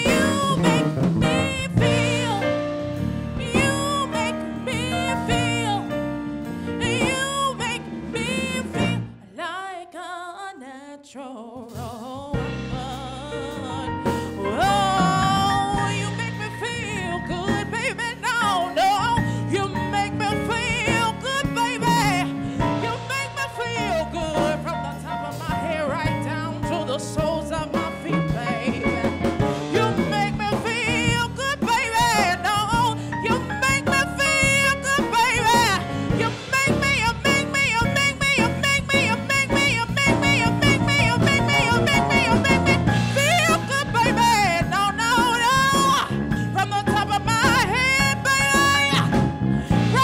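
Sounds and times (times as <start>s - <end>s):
woman singing a gospel ballad: 0.0s - 2.7s, 3.3s - 50.0s
electric bass: 0.0s - 9.2s, 12.3s - 50.0s
live band on keyboard and drums: 0.0s - 9.2s, 11.7s - 50.0s.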